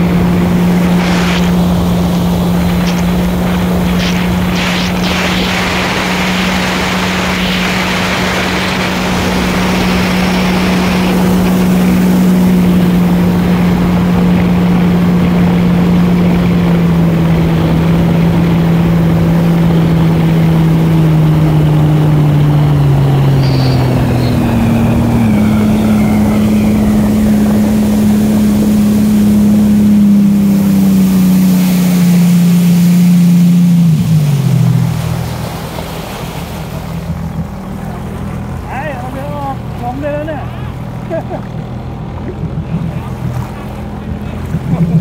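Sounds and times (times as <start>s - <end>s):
hiss of water and wind: 0.0s - 45.0s
jet ski engine running: 0.0s - 45.0s.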